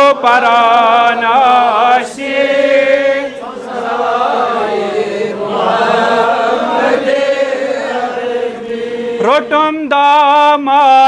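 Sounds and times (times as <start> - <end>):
men chanting devotional song: 0.0 - 11.0.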